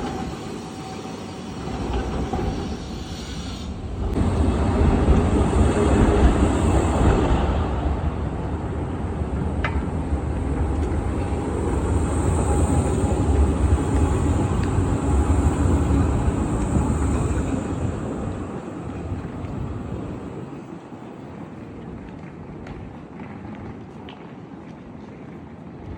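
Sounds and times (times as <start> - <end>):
tram rumbling on rails: 0.0 - 25.9.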